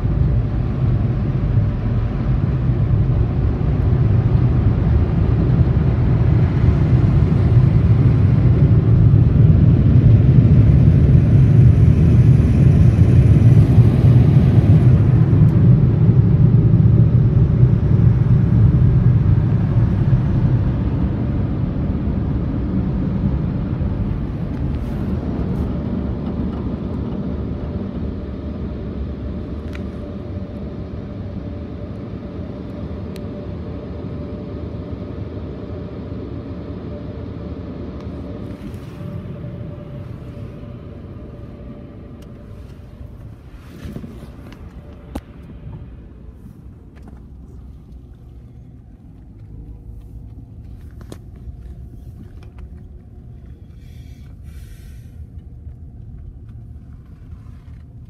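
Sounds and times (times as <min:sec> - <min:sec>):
car cabin rumble: 0:00.0 - 0:30.6, 0:38.0 - 0:58.0
steady whine: 0:00.0 - 0:58.0.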